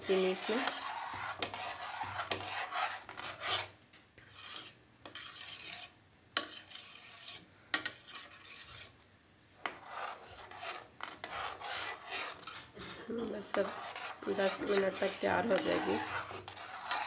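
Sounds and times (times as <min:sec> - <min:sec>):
wire whisk scraping a metal pot: 0:00.1 - 0:03.7, 0:04.3 - 0:09.0, 0:09.6 - 0:17.0.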